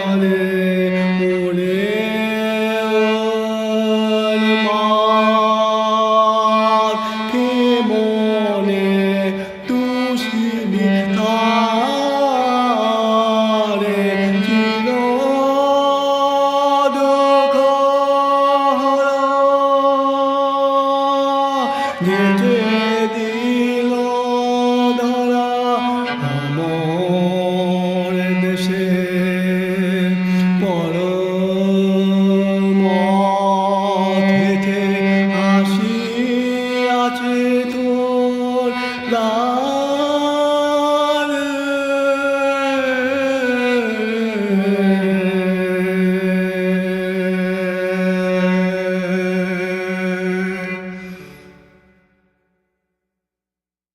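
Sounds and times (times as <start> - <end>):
cello bowed notes: 0.0 - 51.9.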